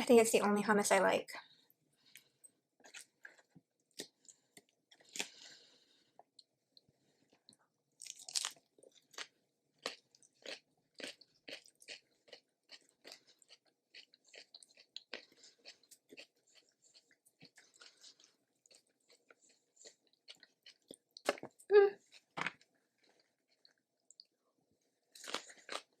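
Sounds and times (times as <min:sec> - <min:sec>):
person chewing crunchy food: 0:02.0 - 0:26.0.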